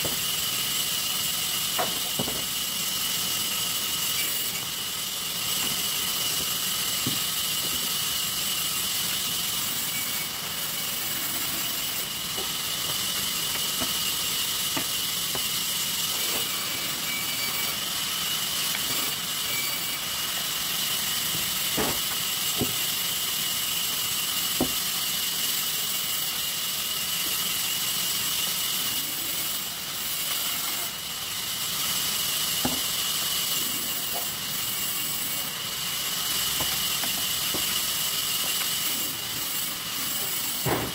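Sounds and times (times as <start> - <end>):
sawmill saw whining: 0.0 - 40.9.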